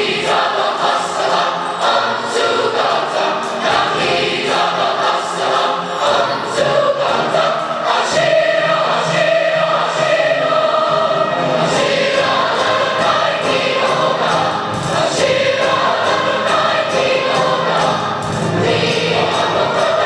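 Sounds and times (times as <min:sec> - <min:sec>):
choir singing in parts: 0:00.0 - 0:20.0.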